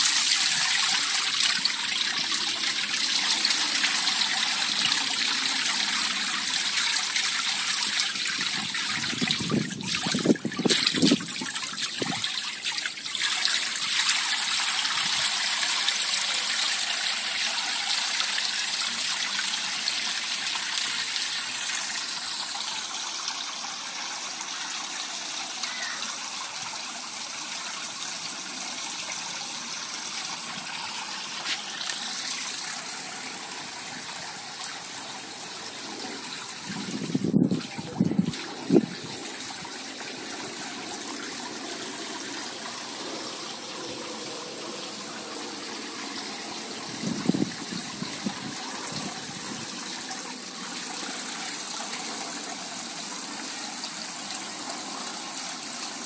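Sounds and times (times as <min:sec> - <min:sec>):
water splashing into pond: 0:00.0 - 0:56.0.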